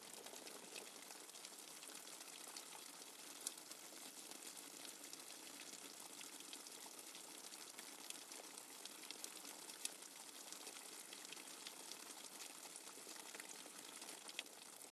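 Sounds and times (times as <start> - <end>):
continuous hiss: 0.0 - 14.9
rain dripping: 0.0 - 14.9.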